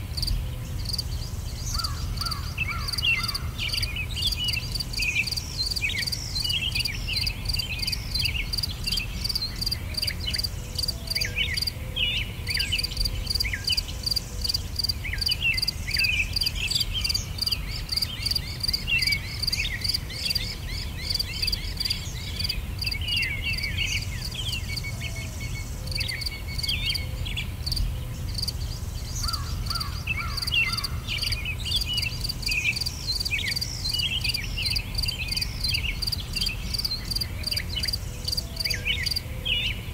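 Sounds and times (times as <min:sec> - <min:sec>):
crickets chirping: 0:00.0 - 0:11.8, 0:12.5 - 0:39.3
bird chirps and calls: 0:00.2 - 0:39.8.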